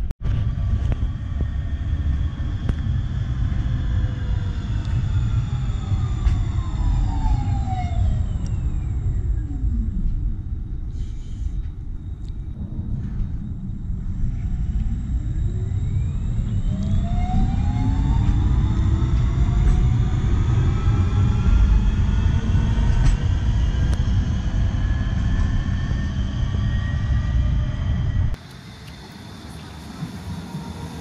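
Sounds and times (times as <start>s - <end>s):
wheels rumbling on rails: 0.0s - 31.0s
tram motors whining: 0.2s - 31.0s.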